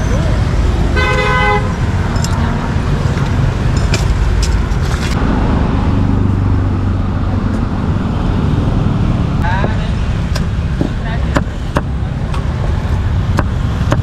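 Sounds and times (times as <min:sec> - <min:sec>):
street traffic noise: 0:00.0 - 0:14.0
vehicle engine hum passing: 0:01.6 - 0:14.0.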